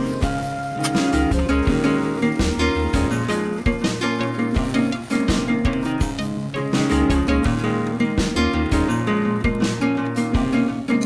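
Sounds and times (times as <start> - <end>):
music with plucked guitar: 0.0 - 11.0
steady beat and bass: 0.0 - 11.0.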